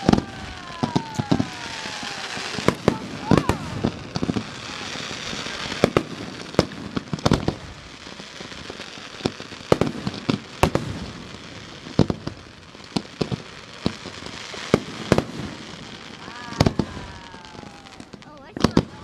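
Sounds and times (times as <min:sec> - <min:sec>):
fireworks bangs and pops: 0:00.0 - 0:19.0
fireworks crackling hiss: 0:00.0 - 0:19.0.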